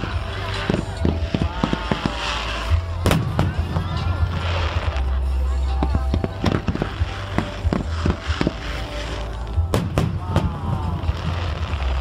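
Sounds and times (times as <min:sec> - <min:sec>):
background music: 0:00.0 - 0:12.0
fireworks bangs: 0:00.0 - 0:12.0.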